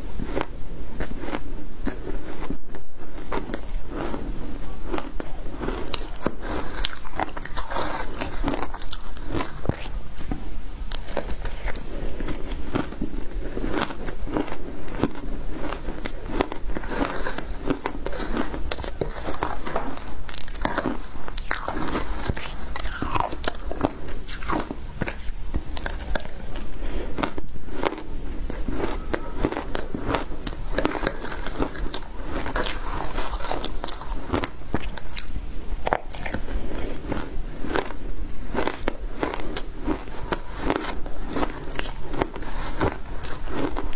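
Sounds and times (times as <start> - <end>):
ice crunching being chewed: 0.2 - 43.9.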